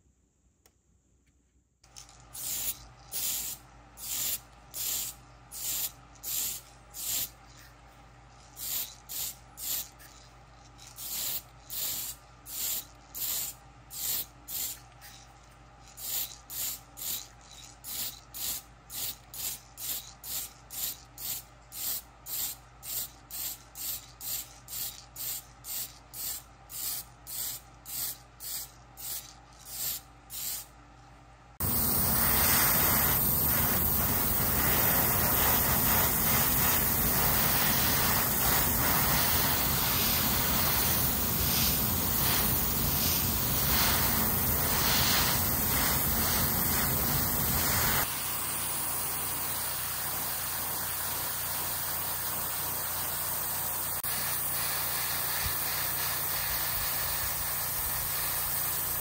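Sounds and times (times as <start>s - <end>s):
spray can hissing bursts: 1.9s - 7.7s, 8.4s - 10.2s, 10.8s - 15.2s, 15.9s - 30.7s, 31.6s - 59.0s
airbrush spraying hiss: 2.0s - 7.7s, 8.4s - 15.2s, 15.8s - 30.8s, 31.6s - 59.0s.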